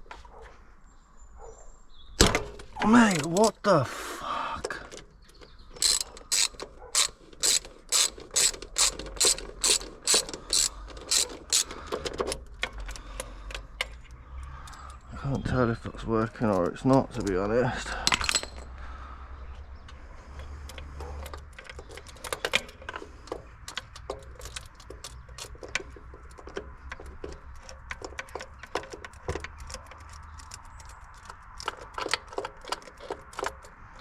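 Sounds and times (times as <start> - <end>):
hand tools clicking on metal: 2.7 - 3.8, 4.7 - 18.8, 19.8 - 34.0.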